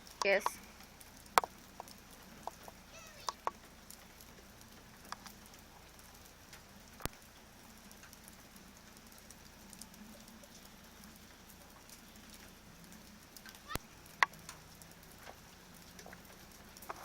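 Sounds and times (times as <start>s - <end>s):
faint rain patter: 0.0s - 17.0s.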